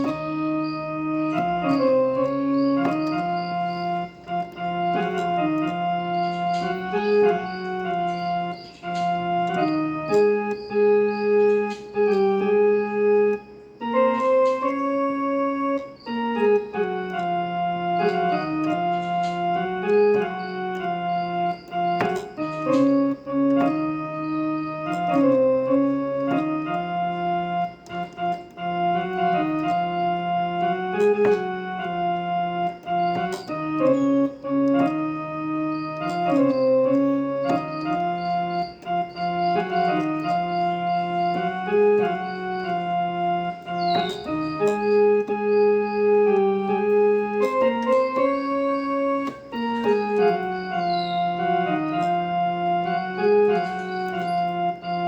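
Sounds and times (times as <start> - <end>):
electronic keyboard harmonium melody: 0.0 - 55.0.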